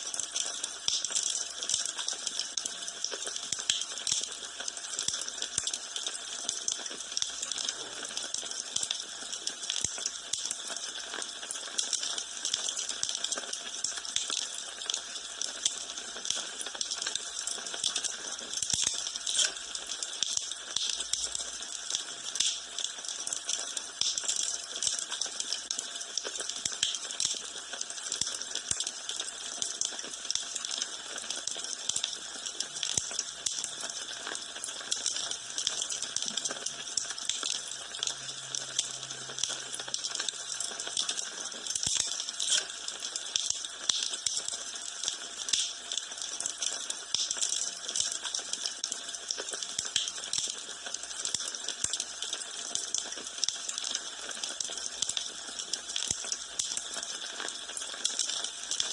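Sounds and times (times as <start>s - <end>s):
wood fire crackling: 0.2s - 58.9s.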